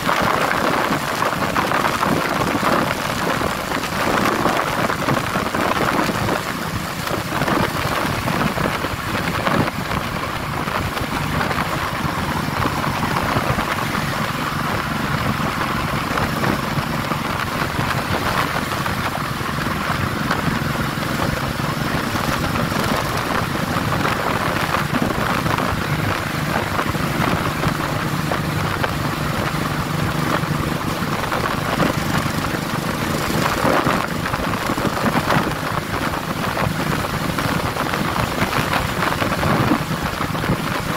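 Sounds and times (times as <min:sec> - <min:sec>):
motorcycle engine: 0:00.0 - 0:40.9
wind rushing over microphone: 0:00.0 - 0:40.9.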